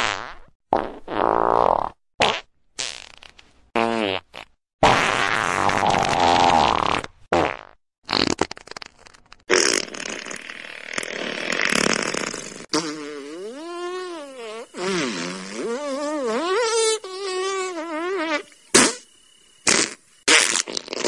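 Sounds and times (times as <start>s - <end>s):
fart sounds: 0.0s - 19.0s, 19.6s - 21.0s
squeaky pitched fart: 0.0s - 21.0s.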